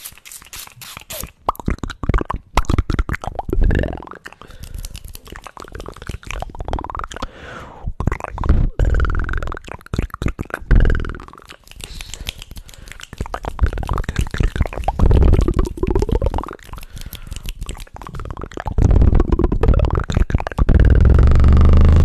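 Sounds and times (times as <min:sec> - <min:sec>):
wet mouth clicks and pops: 0:00.0 - 0:22.0
gurgling throat and voice noises: 0:00.8 - 0:22.0.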